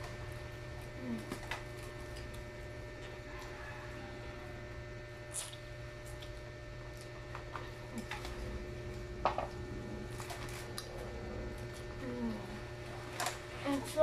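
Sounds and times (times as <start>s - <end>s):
steady low hum: 0.0s - 14.0s
children chewing wetly: 0.1s - 4.0s, 5.3s - 13.4s.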